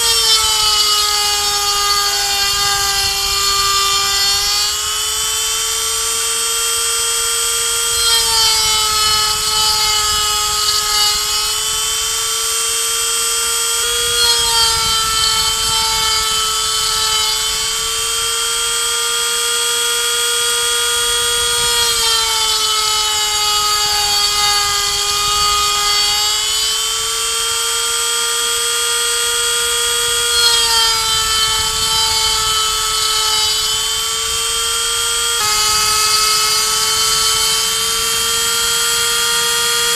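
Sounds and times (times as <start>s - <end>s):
rotary tool whining while milling wood: 0.0s - 39.9s.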